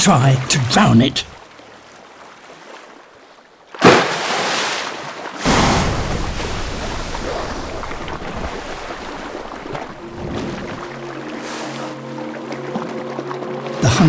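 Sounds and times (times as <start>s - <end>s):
seawater splashing and surging: 0.0s - 14.0s.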